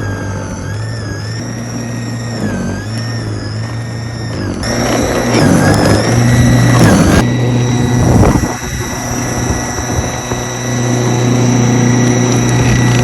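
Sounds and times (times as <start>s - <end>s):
engine running with whine: 0.0s - 13.0s.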